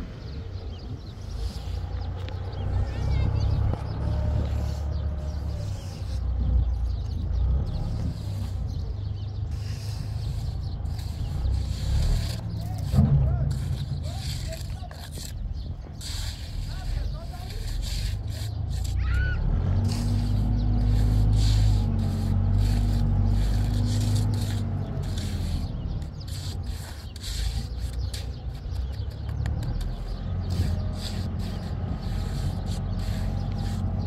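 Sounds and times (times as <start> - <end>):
trowel scraping mortar: 3.0 - 34.0.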